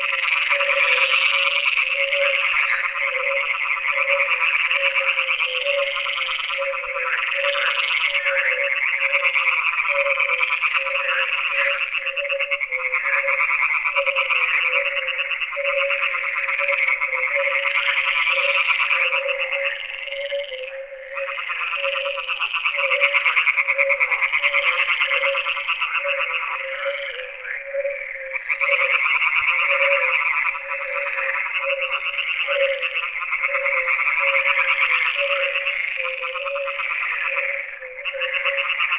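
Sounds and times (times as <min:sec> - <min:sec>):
frogs trilling: 0:00.0 - 0:38.9
low pulsing frog call: 0:00.0 - 0:38.9.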